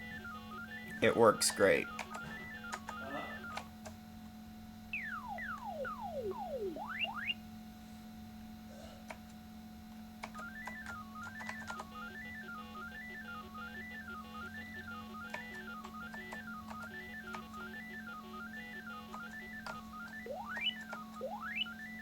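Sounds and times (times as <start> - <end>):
electronic whistle-like sweeps: 0.0 - 3.6, 4.9 - 7.4, 10.4 - 22.0
stepped computer beeping: 0.0 - 3.7, 4.9 - 7.4, 10.2 - 22.0
steady low hum: 0.0 - 22.0.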